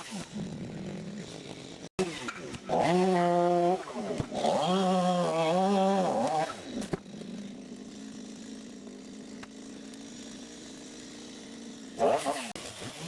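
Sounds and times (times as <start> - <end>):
chainsaw revving and idling: 0.0 - 13.0.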